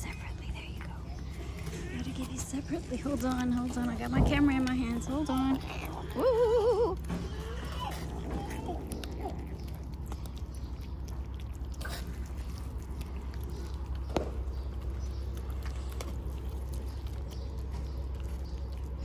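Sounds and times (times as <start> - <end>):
kittens chewing wet food: 0.0 - 19.0
low steady hum: 0.0 - 19.0.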